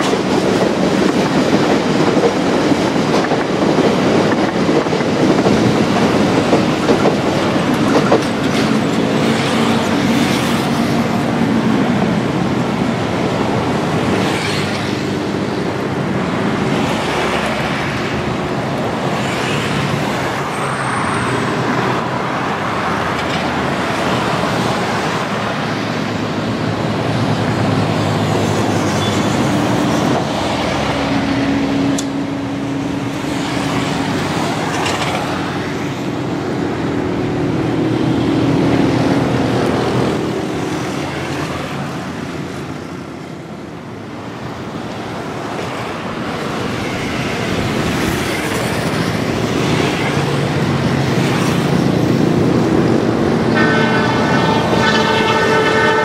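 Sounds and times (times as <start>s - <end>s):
road traffic: 0.0s - 56.0s.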